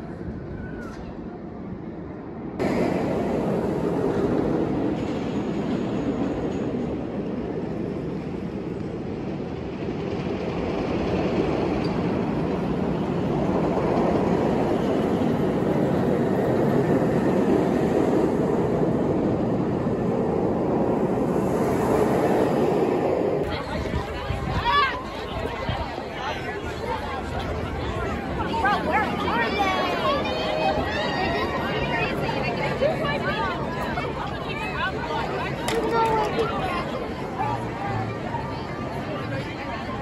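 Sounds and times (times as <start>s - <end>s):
roller coaster wheels roaring on track: 0.0s - 40.0s.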